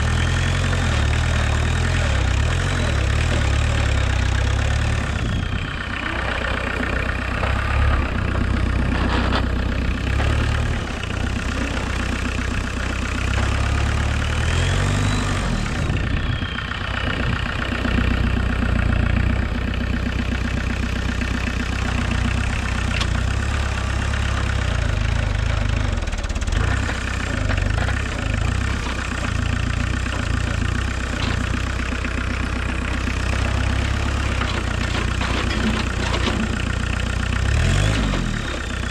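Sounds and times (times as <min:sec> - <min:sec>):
diesel tractor engine running: 0:00.0 - 0:38.9
engine whine: 0:00.0 - 0:38.9.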